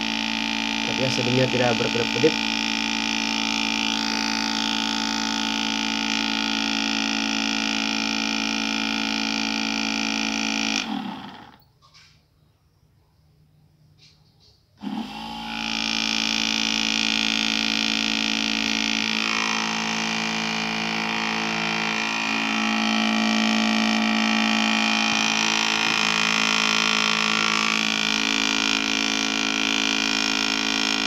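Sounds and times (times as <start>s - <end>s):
small electric motor whine: 0.0s - 12.0s, 14.8s - 31.0s.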